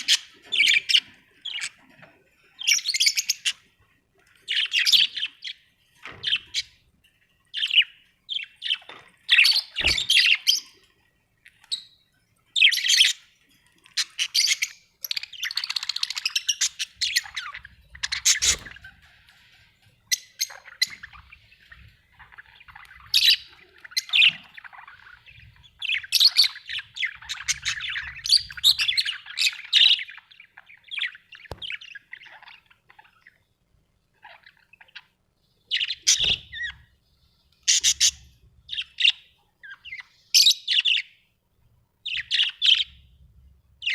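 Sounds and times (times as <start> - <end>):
budgerigars chirping and chattering: 0.0 - 6.9, 7.5 - 10.8, 11.4 - 33.5, 34.1 - 41.2, 42.0 - 43.1.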